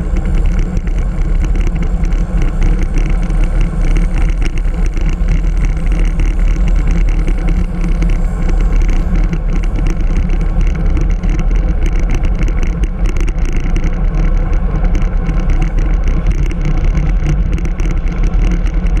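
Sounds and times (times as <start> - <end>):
bicycle rattles and knocks: 0.0 - 19.0.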